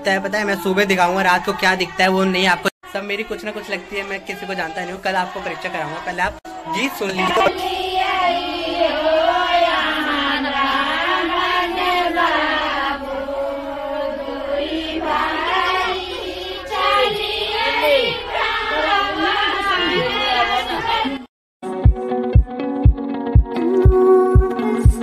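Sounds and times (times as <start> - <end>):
women singing together: 1.3 - 21.3, 23.6 - 25.0.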